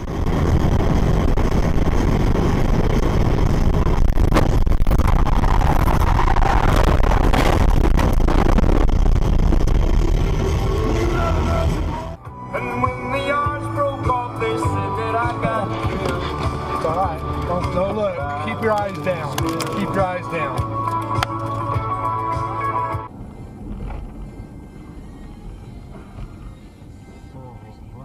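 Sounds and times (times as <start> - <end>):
car rumble with road and wind noise: 0.0 - 28.0.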